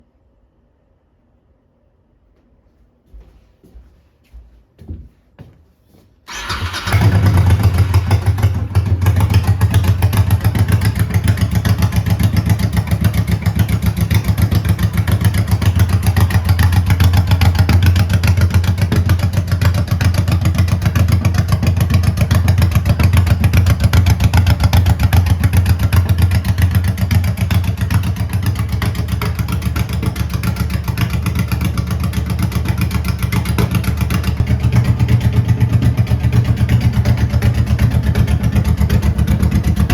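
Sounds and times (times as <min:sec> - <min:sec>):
motorcycle engine idling: 0:06.3 - 0:39.9.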